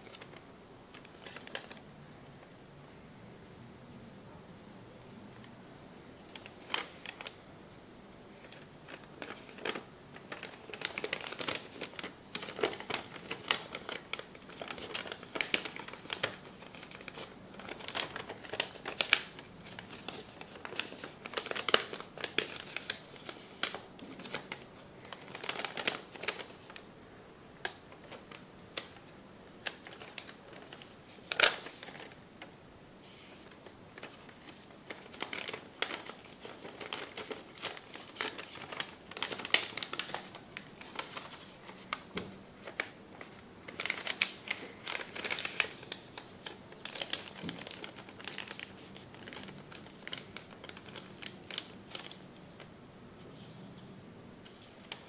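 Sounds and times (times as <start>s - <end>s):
paper rustling and crinkling: 0.0s - 1.8s, 6.3s - 7.4s, 8.3s - 26.8s, 27.6s - 55.0s.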